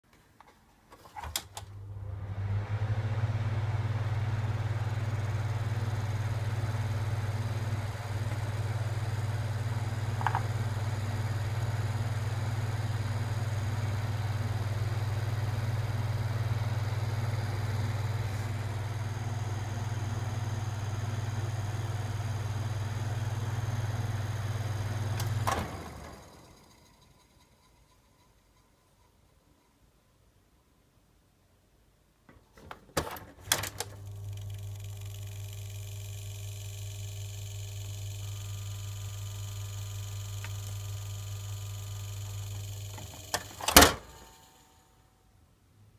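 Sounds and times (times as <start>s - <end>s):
ventilation fan humming: 1.0s - 27.0s, 32.3s - 44.8s.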